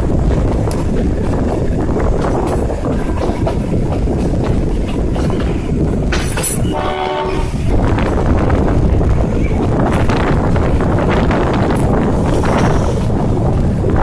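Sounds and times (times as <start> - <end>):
train carriage rumbling on rails: 0.0 - 14.0.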